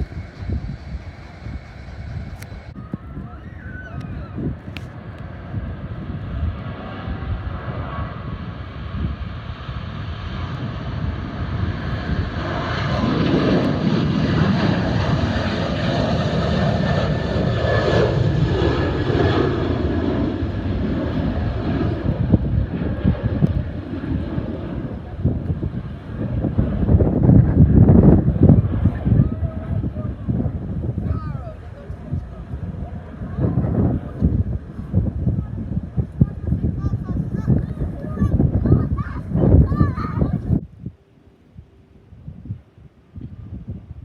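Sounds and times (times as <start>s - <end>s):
jet engines passing: 0.0s - 42.2s
wind buffeting microphone: 0.0s - 44.0s.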